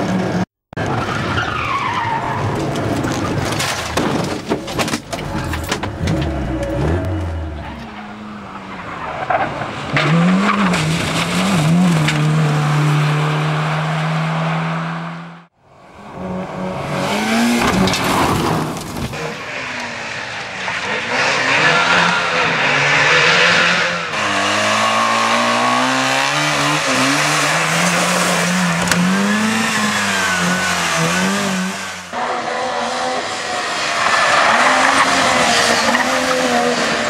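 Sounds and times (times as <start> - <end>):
tyres skidding: 0.0 - 37.0
racing car engines revving: 5.2 - 37.0.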